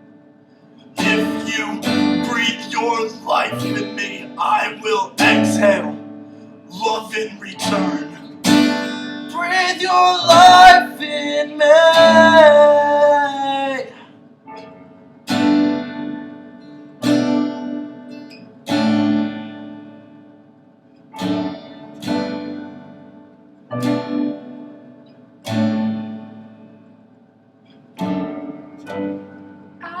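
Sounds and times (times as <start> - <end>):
acoustic guitar strummed chords: 0.0 - 30.0.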